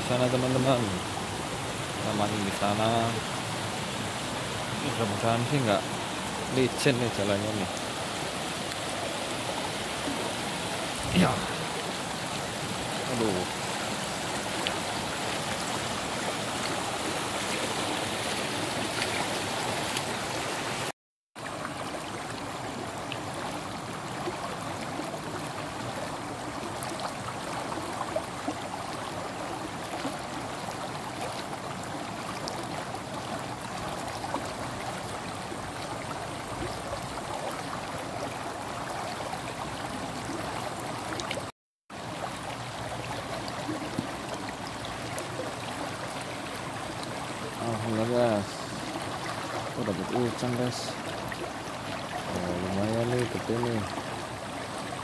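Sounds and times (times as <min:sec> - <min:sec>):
water rushing in channel: 0:00.0 - 0:55.0.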